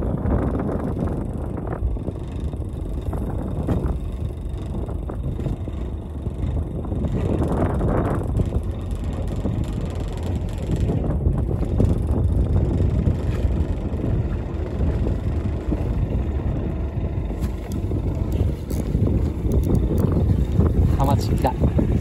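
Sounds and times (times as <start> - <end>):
low rumble: 0.0 - 22.0
wind buffeting microphone: 0.0 - 22.0.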